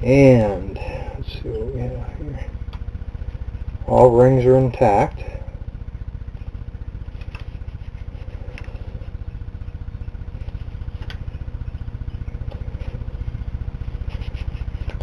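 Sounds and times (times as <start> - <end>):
faint steady whine: 0.0 - 15.0
motor running with pulse: 0.0 - 15.0.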